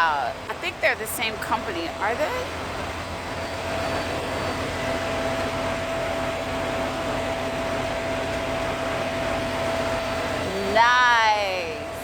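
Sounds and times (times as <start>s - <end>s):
mechanical hum with steady tone: 0.0s - 12.0s.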